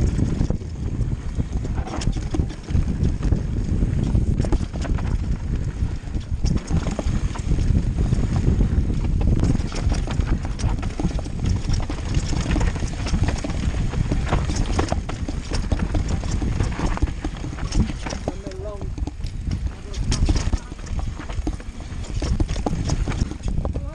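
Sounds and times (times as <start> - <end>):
bike clattering over bumps: 0.0 - 23.9
wind rumble on microphone: 0.0 - 23.9.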